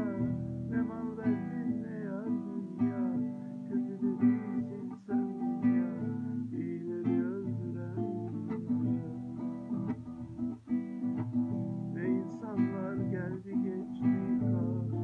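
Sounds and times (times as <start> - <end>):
classical guitar strumming chords: 0.0 - 15.0.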